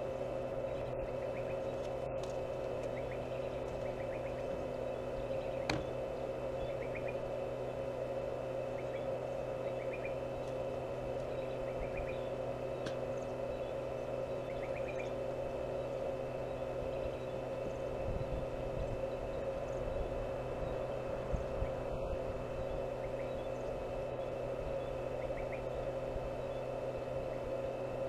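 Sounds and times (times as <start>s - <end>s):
steady machine hum: 0.0s - 28.0s.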